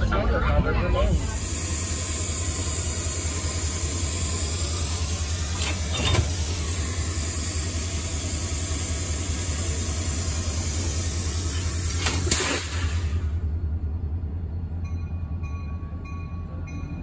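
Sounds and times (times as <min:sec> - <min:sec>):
diesel locomotive engine idling: 0:00.0 - 0:17.0.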